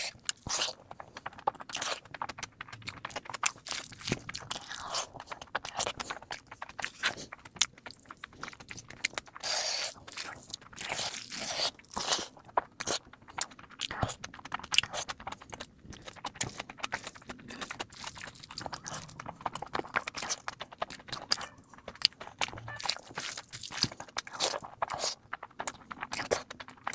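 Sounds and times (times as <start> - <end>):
crunching and chewing: 0.0 - 26.9.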